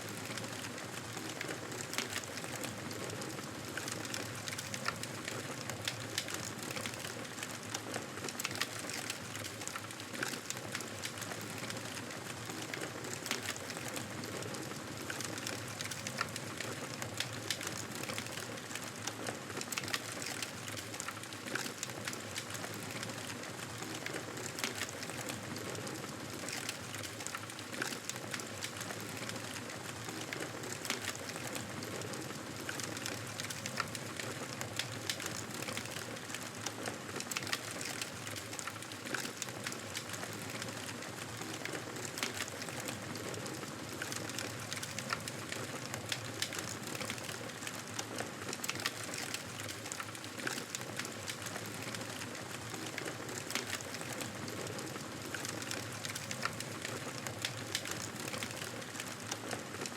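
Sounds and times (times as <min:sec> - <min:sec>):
fire crackling and popping: 0:00.0 - 0:59.9
fire hissing and rustling: 0:08.4 - 0:59.9.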